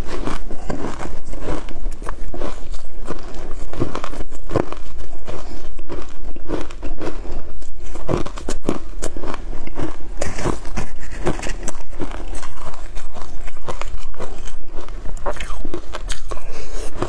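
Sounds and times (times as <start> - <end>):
ice crunching between teeth: 0.0 - 17.0.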